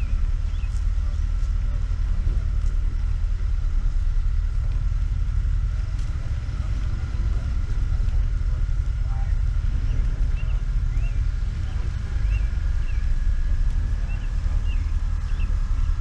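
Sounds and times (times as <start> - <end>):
faint high whine: 0.0 - 16.0
road noise: 0.0 - 16.0
vehicle engine rumble: 0.0 - 16.0.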